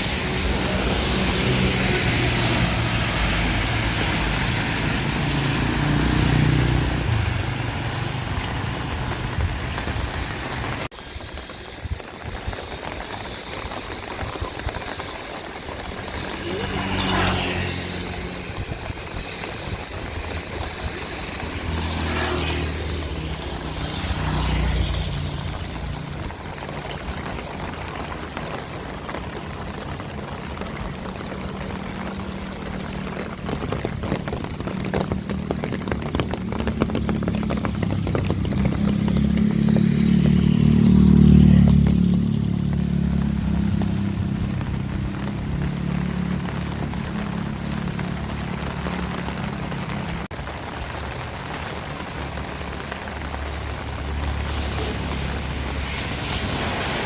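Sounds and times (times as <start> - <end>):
engine rumble: 0.0 - 57.0
heavy rain hiss: 0.0 - 57.0
vehicles passing on wet road: 0.0 - 57.0.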